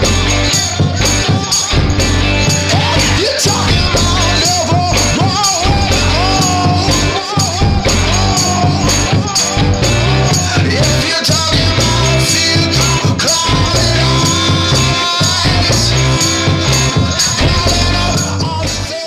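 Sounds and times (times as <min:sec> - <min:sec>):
song with vocals drums and bass: 0:00.0 - 0:19.0.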